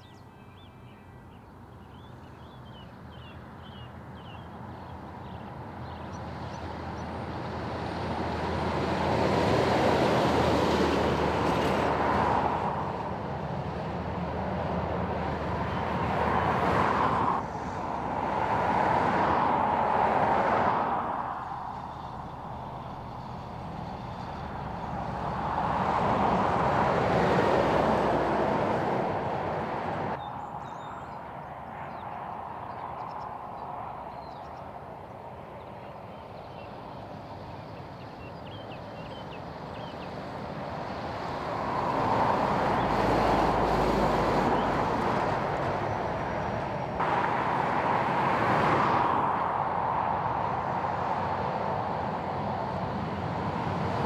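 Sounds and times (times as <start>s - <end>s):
trucks and cars passing: 0.0s - 54.0s.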